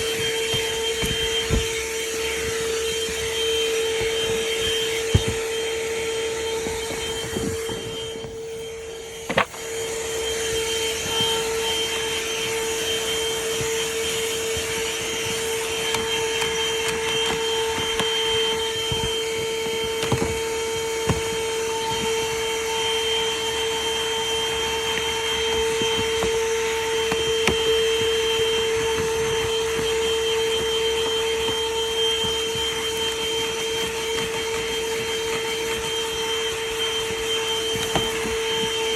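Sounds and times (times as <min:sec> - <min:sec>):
handheld vacuum running: 0:00.0 - 0:38.9
vacuum nozzle knocking: 0:00.0 - 0:38.9.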